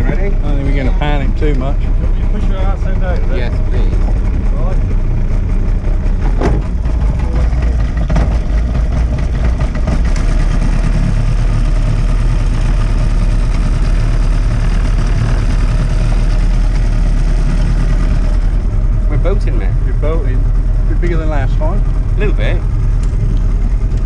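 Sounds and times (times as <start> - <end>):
outboard motor idling: 0.0 - 24.0.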